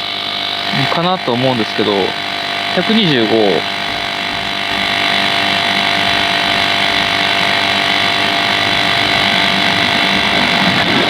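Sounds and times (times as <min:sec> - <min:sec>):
electric tyre inflator running: 0:00.0 - 0:11.0.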